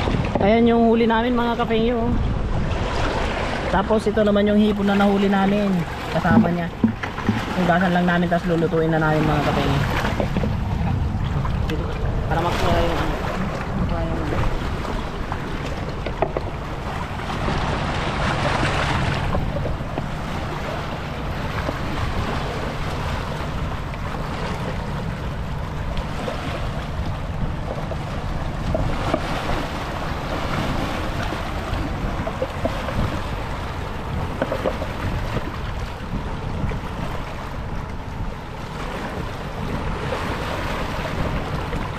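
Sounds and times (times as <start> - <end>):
waves washing on rocky shore: 0.0 - 41.9
wind buffeting microphone: 0.0 - 41.9.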